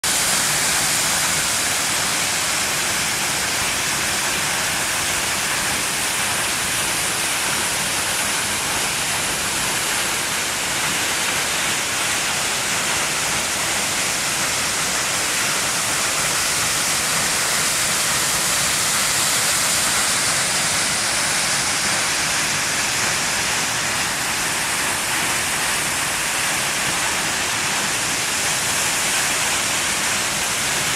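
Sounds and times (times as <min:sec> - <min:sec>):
waterfall crashing into pool: 0:00.0 - 0:30.9.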